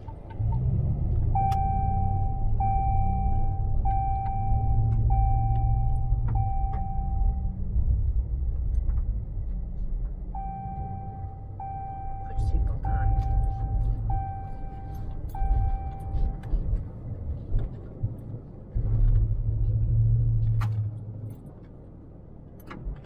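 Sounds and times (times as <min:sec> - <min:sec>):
vehicle engine running: 0:00.0 - 0:21.7.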